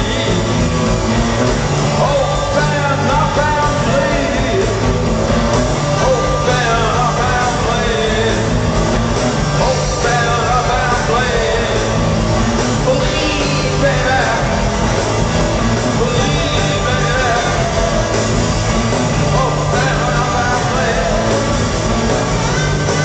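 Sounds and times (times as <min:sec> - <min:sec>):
man singing: 0:00.0 - 0:01.0, 0:01.8 - 0:05.2, 0:05.8 - 0:21.6
bass guitar: 0:00.0 - 0:23.0
drums: 0:00.0 - 0:23.0
electric guitar: 0:00.0 - 0:23.0.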